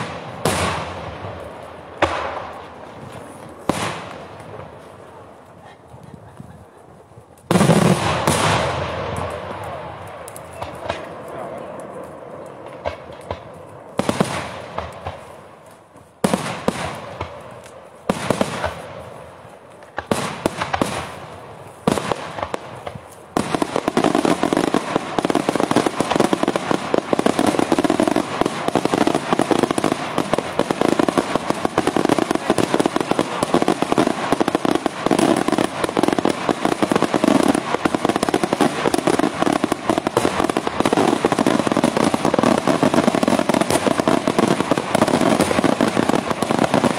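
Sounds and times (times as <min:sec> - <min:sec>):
crackling fireworks barrage: 0:00.0 - 0:46.9
fireworks bangs: 0:00.0 - 0:46.9.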